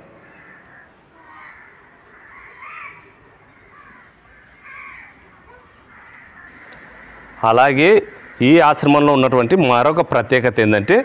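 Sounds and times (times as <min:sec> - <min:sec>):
crows cawing: 0:00.0 - 0:09.2, 0:10.5 - 0:11.0.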